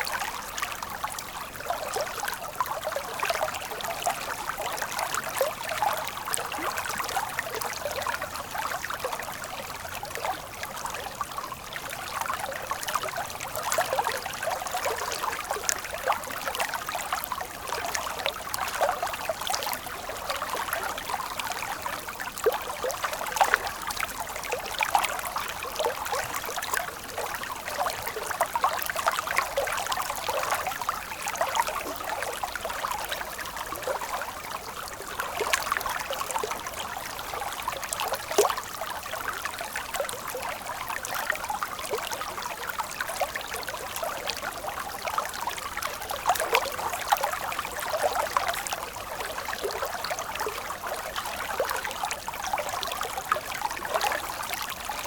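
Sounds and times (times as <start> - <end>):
stream water trickling and splashing: 0.0 - 55.0.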